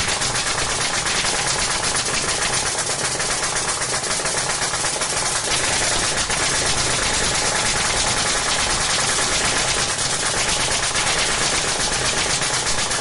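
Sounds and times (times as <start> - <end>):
nail gun firing: 0.0 - 13.0.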